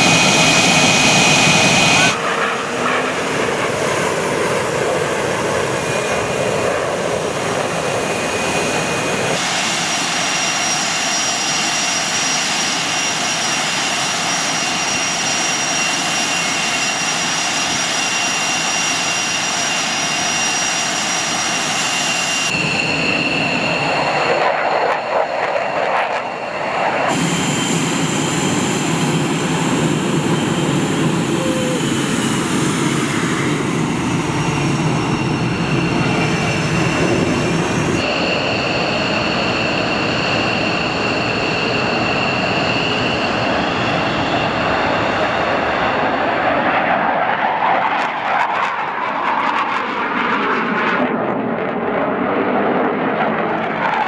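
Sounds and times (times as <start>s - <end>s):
jet engines running with high whine: 0.0s - 54.0s.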